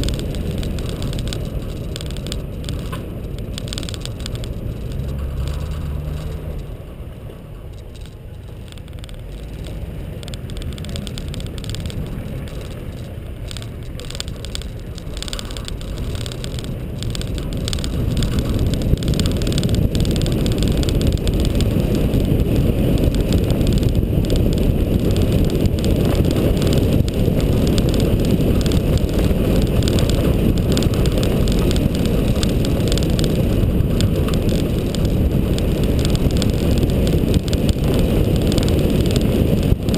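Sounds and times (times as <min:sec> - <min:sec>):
car engine driving: 0:00.0 - 0:39.9.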